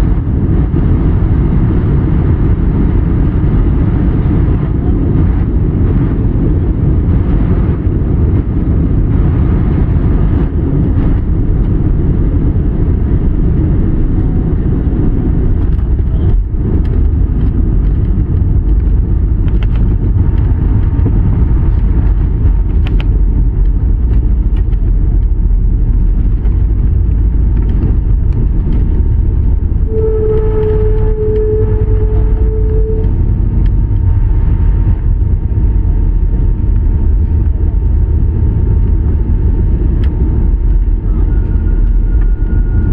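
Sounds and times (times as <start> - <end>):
jet engine cabin rumble: 0.0 - 42.9
steady whining tone: 0.0 - 42.9.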